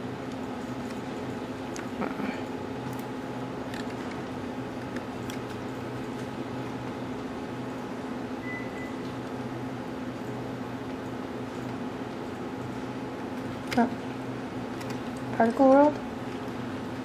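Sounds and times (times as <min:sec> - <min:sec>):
computer equipment hum and hiss: 0:00.0 - 0:17.0.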